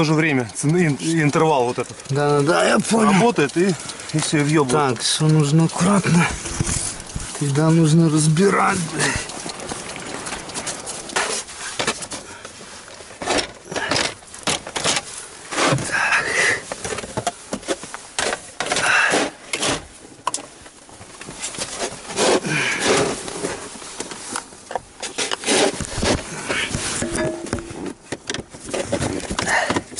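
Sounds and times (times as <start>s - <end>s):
plastic scraping rustles: 0.1s - 29.9s.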